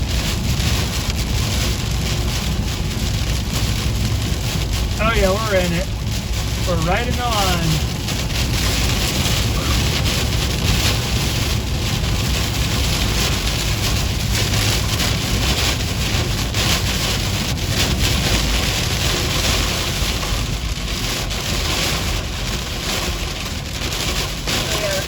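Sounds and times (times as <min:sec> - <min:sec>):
gusting wind: 0:00.0 - 0:24.9
heavy rain on a car: 0:00.0 - 0:25.0
road noise rumble: 0:00.0 - 0:25.0.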